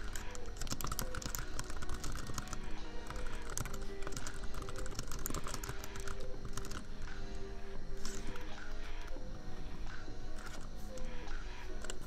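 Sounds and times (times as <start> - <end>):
keyboard typing: 0.0 - 9.5, 10.3 - 12.0
laptop fan hum: 0.0 - 12.0
soft lofi music: 0.0 - 12.0.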